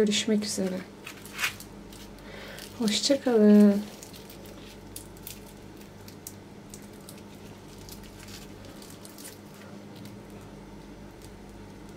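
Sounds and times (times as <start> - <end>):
low steady hum: 0.0 - 11.9
crisp pastry crackling when torn: 1.0 - 11.9.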